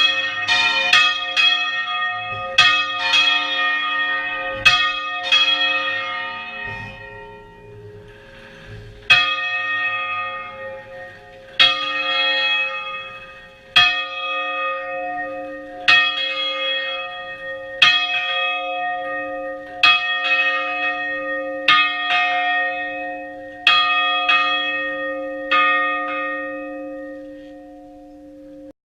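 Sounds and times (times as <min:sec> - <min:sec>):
church bells ringing: 0:00.0 - 0:28.8.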